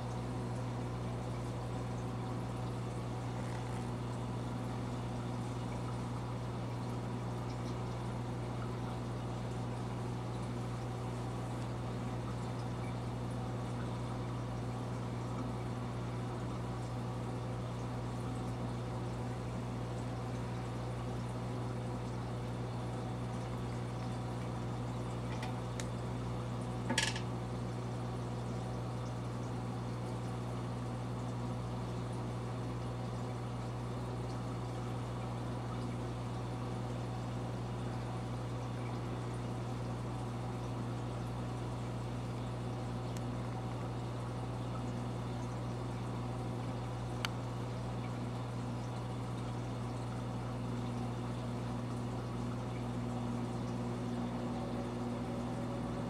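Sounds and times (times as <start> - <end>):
aquarium pumps humming: 0.0 - 56.0.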